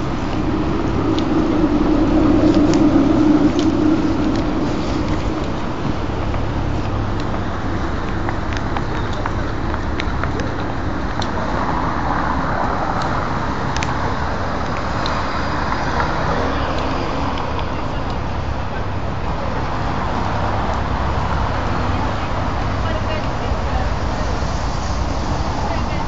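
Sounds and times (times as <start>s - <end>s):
city road traffic: 0.0s - 26.0s.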